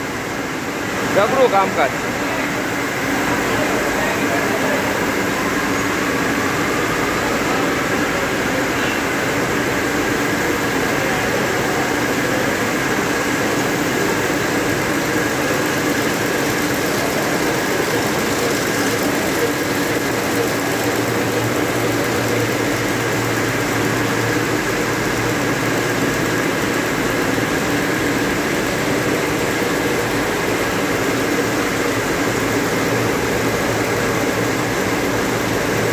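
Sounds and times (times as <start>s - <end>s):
looms running: 0.9s - 35.9s.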